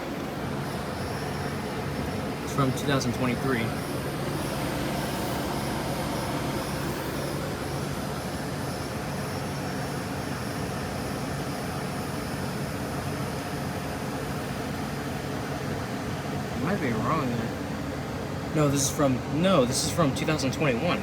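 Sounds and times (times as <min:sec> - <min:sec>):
compressor hum: 0:00.0 - 0:21.0
fan blowing air: 0:00.0 - 0:21.0.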